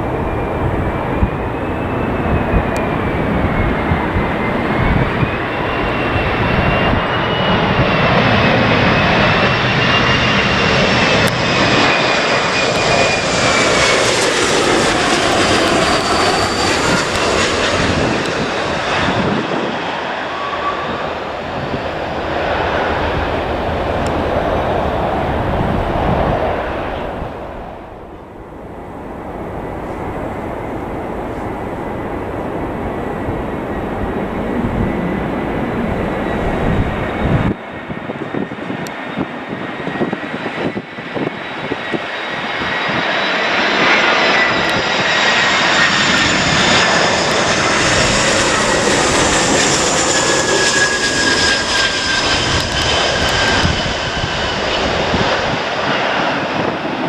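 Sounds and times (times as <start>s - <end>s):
jet engine whine: 0.0s - 57.0s
jet engines rushing: 0.0s - 57.0s.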